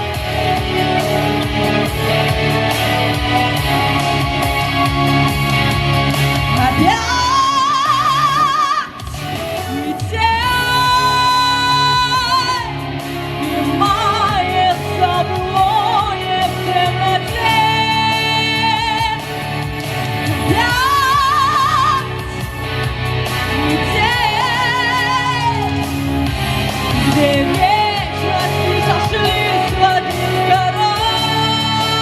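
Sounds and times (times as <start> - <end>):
live pop band backing: 0.0 - 32.0.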